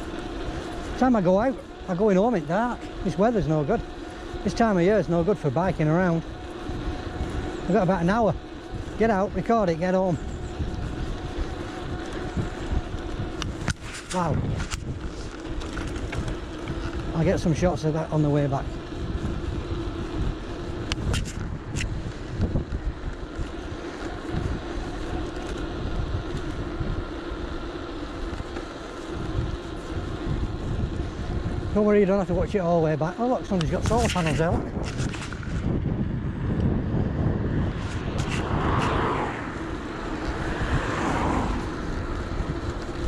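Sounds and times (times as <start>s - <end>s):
road noise from riding bike: 0.0s - 43.0s
steady hum: 0.0s - 43.0s
wind buffeting microphone: 0.0s - 43.0s.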